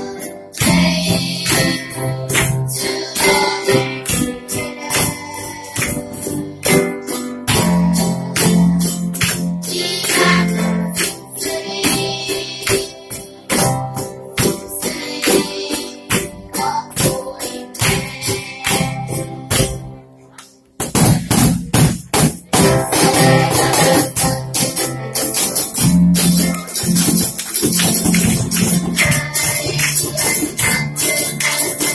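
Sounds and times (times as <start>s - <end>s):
cajon and tambourine beat: 0.0s - 19.9s, 20.8s - 31.9s
children singing: 0.0s - 20.0s, 22.6s - 31.9s
keyboard: 0.0s - 20.7s, 22.4s - 31.9s
children's band playing: 0.0s - 31.9s
strummed small guitars: 0.0s - 31.9s.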